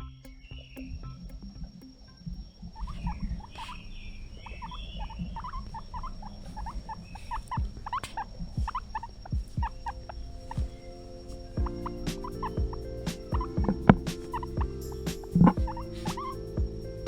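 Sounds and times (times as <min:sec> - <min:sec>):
guinea pig squeaking: 0:02.7 - 0:17.0.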